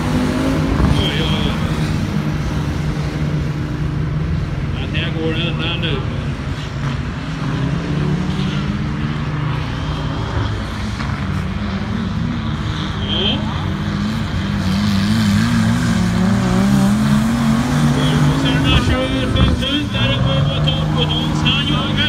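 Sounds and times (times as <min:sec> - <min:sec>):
engine revving: 0:00.0 - 0:06.2, 0:06.8 - 0:22.0
racing tractor engines: 0:00.0 - 0:22.0.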